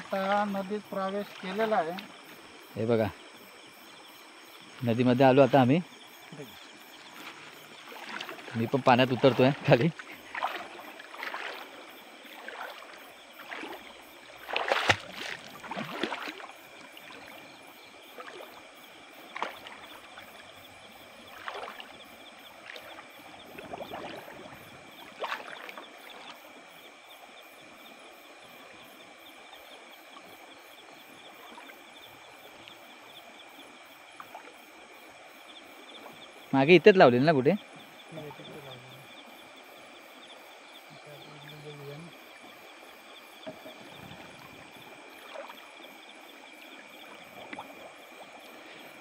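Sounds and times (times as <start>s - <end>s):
insect trill: 0.0s - 49.0s
wading through river water: 0.0s - 49.0s.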